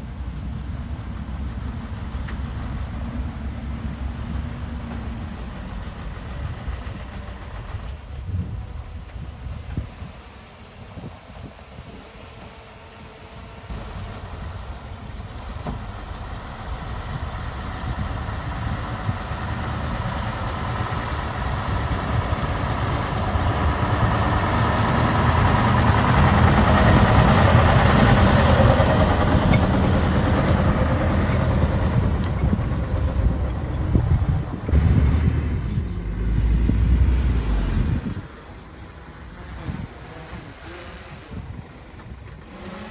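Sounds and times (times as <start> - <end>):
heavy machine engine running: 0.0 - 42.9.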